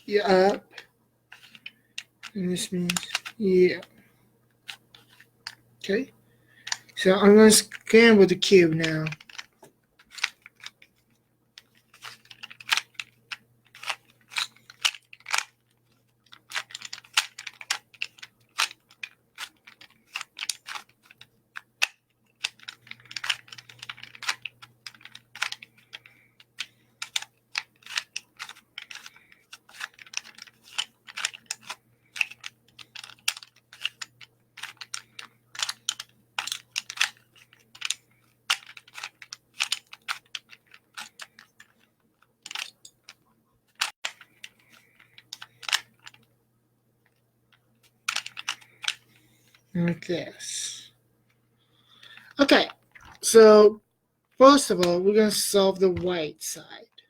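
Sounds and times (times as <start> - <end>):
puzzle cube clicking and rattling: 0.2 - 4.0, 4.6 - 5.6, 6.5 - 46.3, 47.8 - 50.9, 52.0 - 53.6.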